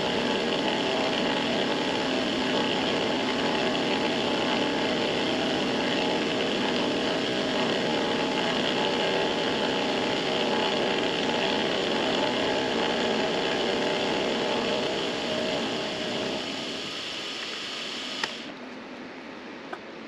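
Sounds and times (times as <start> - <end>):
machine tool motor whine: 0.0 - 18.5
cutting hiss: 0.0 - 18.6.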